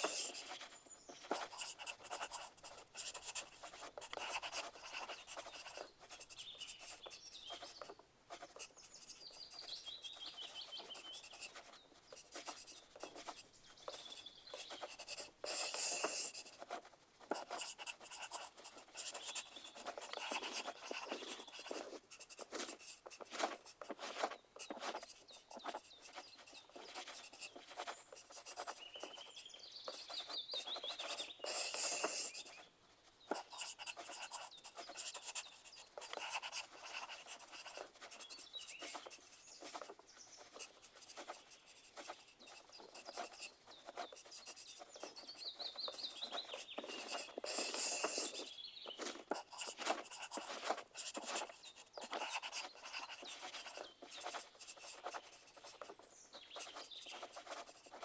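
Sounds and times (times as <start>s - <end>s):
pencil tapping: 0.0s - 0.6s, 1.3s - 32.6s, 33.3s - 40.0s, 40.6s - 55.9s
pencil scratching on paper: 0.0s - 32.7s, 33.3s - 58.0s.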